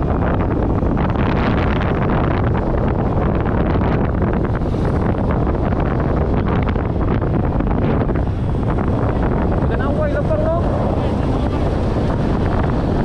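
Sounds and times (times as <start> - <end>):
motorcycle engine and road rumble: 0.0 - 13.0
wind buffeting microphone: 0.0 - 13.0.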